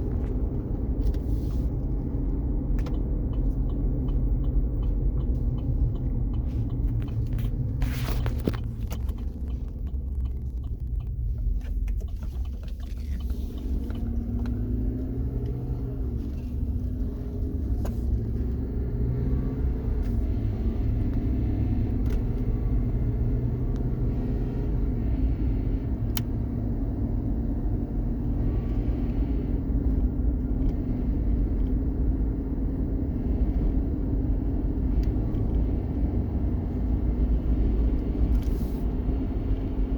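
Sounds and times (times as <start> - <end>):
low road rumble: 0.0 - 39.9.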